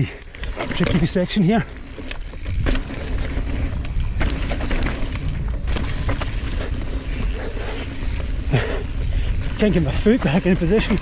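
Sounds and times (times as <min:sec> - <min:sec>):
bike knocking and rattling: 0:00.0 - 0:11.0
bike tyres rumbling over rocks: 0:00.2 - 0:11.0.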